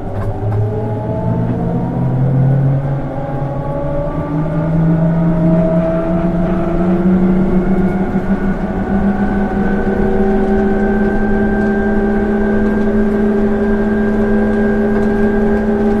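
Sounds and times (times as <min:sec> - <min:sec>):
electric motor whine rising: 0:00.0 - 0:16.0
low running rumble: 0:00.0 - 0:16.0.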